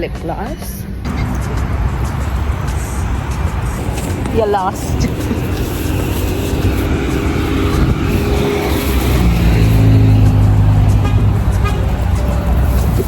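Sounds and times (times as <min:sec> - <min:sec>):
car engine and road hum: 0:00.8 - 0:13.0.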